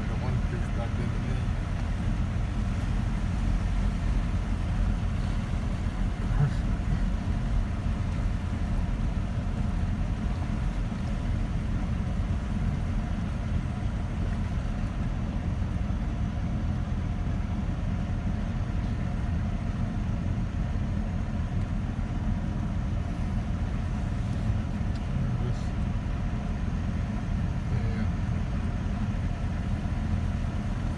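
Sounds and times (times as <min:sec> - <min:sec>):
car driving through water: 0:00.0 - 0:30.9.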